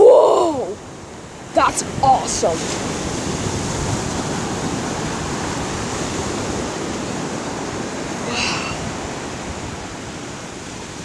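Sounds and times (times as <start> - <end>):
ocean surf washing on beach: 0.0 - 11.0
wind rumbling on microphone: 0.0 - 11.0.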